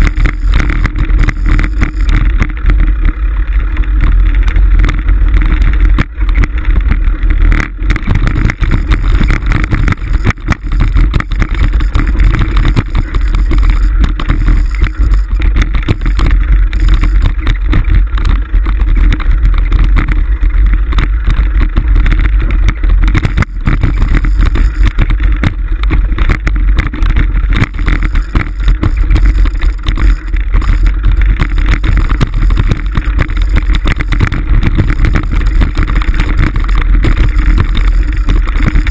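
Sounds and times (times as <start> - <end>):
bike knocks and rattles: 0.0 - 38.9
low rumble of bike riding: 0.0 - 38.9
wind buffeting microphone: 0.0 - 38.9.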